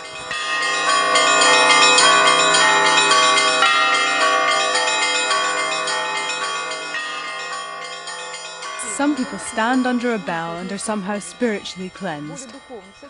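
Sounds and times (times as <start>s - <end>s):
hum of large bells: 0.0s - 13.0s
small bells ringing quickly: 0.1s - 13.0s.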